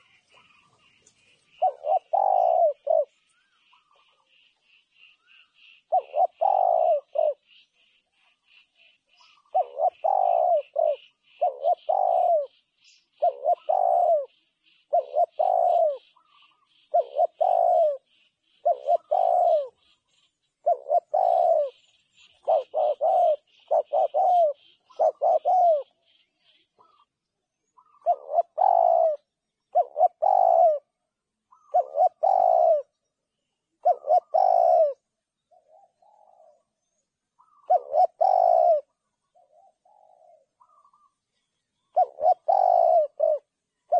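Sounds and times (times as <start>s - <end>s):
dove cooing: 0.0s - 27.1s, 27.7s - 33.0s, 33.8s - 41.2s, 41.8s - 43.9s.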